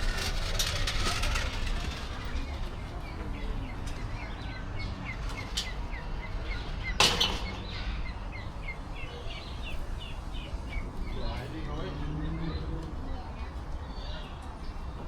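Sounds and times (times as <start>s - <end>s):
low outdoor hum: 0.0s - 15.0s
bird chirping: 2.3s - 15.0s.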